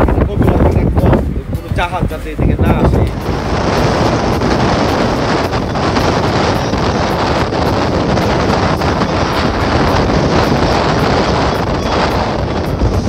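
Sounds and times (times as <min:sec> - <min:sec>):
rush of boat and sea: 0:00.0 - 0:13.0
wind buffeting microphone: 0:00.0 - 0:13.0.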